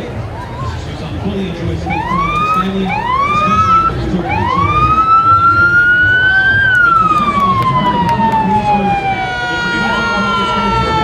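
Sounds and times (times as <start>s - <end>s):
murmur of crowd voices: 0.0s - 11.0s
emergency vehicle siren: 1.9s - 11.0s.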